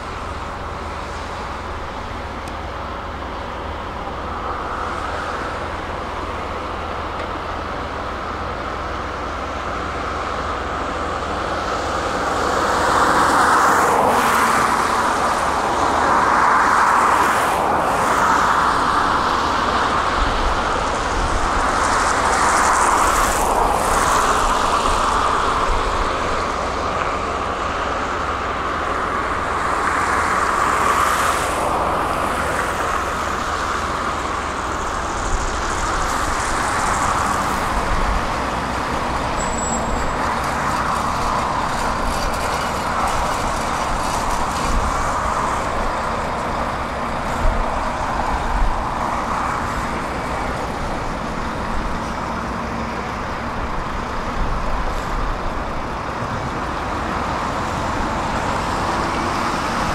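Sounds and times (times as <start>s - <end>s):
heavy machinery engine rumbling: 0.0s - 59.9s.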